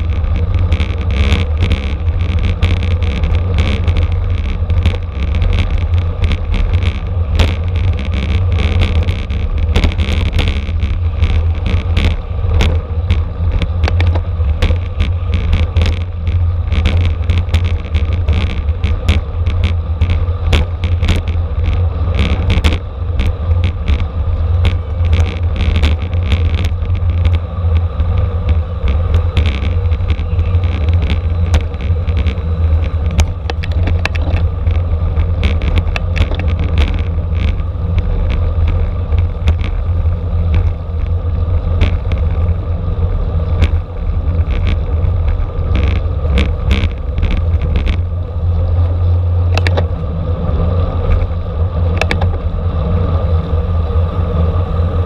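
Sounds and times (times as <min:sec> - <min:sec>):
bicycle clicks and rattles: 0:00.0 - 0:55.0
wind roaring over microphone: 0:00.0 - 0:55.0.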